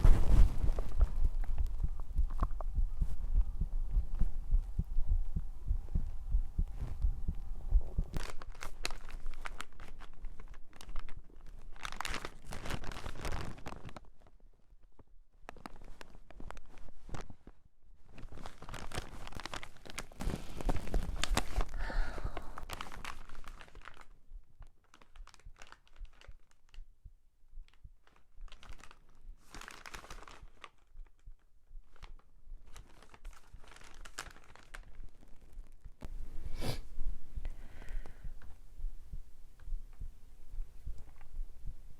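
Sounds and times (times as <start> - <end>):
close rustling and crinkling: 0.0 - 4.4, 6.0 - 26.9, 27.6 - 38.6.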